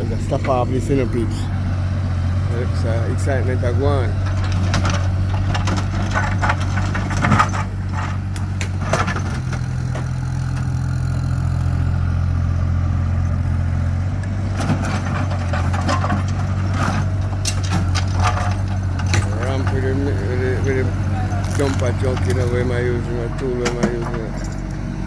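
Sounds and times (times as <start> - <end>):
heavy machine engine running: 0.0 - 25.0.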